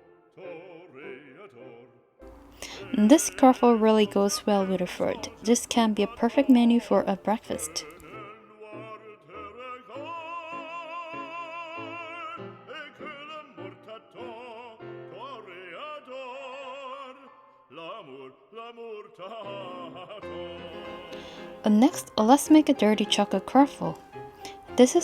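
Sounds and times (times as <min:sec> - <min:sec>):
musical accompaniment: 0:00.0 - 0:17.9, 0:19.4 - 0:25.0
operatic singing voice: 0:00.0 - 0:25.0.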